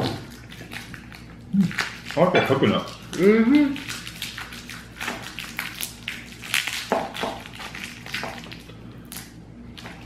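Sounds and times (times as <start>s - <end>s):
plastic wrapper crinkling: 0.2s - 10.0s.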